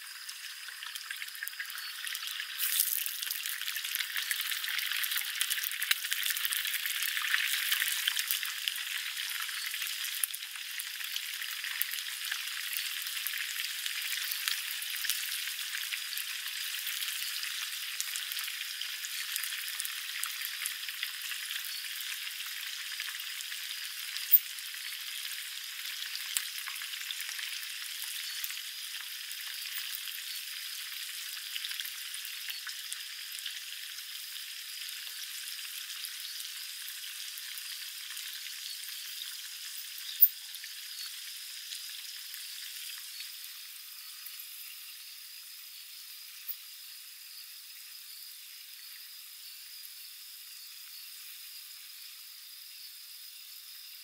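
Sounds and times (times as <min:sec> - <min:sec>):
food deep-frying in oil: 0:00.0 - 0:54.0.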